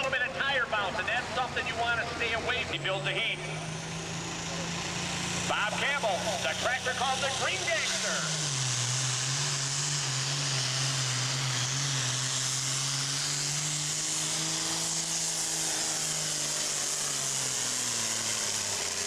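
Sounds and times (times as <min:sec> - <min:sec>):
diesel engine at full throttle: 0:00.0 - 0:19.0.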